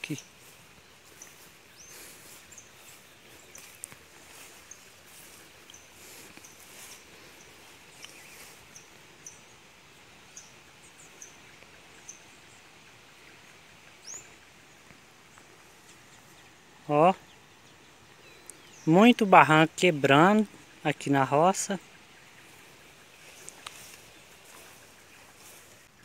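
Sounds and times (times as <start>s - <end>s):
small bird chirping: 0.0s - 9.7s, 10.3s - 18.9s, 21.8s - 26.0s
faint steady hiss: 0.0s - 26.0s.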